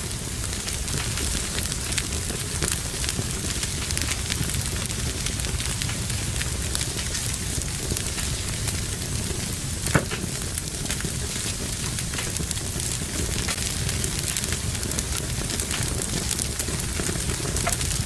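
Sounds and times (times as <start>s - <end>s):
fire crackling: 0.0s - 18.0s
loud pop from fire: 0.5s - 18.0s.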